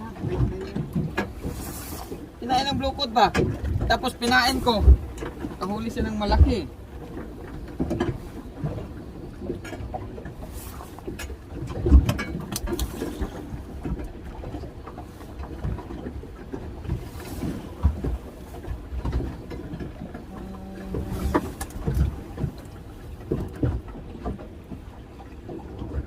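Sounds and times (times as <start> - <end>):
water noise around boat: 0.0 - 26.0
wind: 0.0 - 26.0.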